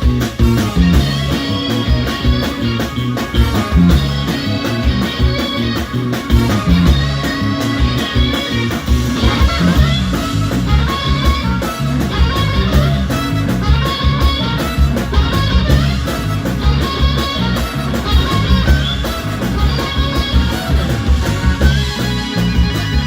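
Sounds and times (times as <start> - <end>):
electric guitar: 0.0 - 23.0
live blues band playing: 0.0 - 23.0.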